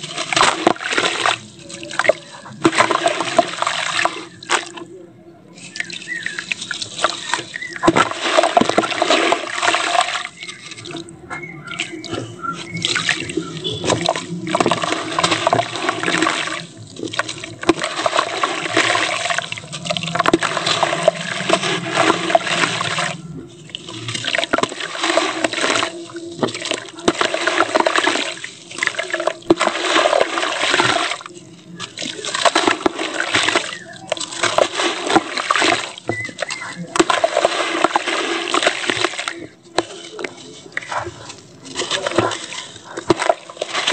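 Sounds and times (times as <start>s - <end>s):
crumbs splashing into water: 0.0s - 43.9s.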